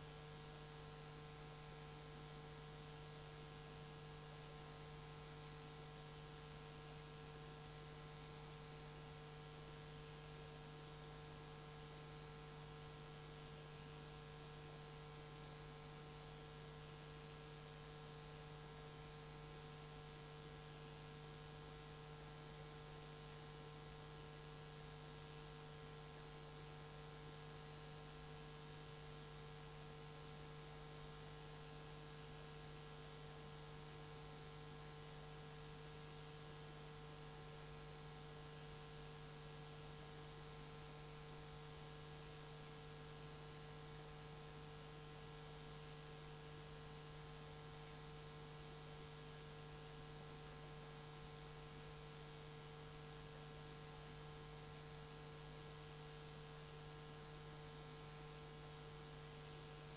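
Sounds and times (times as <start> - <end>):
electrical hum with hiss: 0.0 - 59.9.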